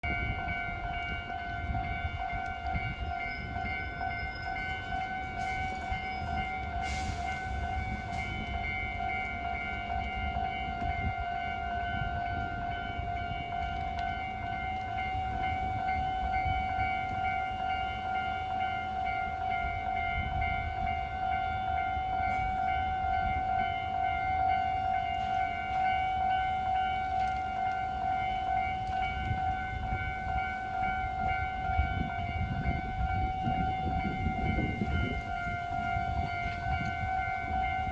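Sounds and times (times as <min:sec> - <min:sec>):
freight train rumbling past: 0:00.0 - 0:37.9
level-crossing alarm tone: 0:00.0 - 0:37.9.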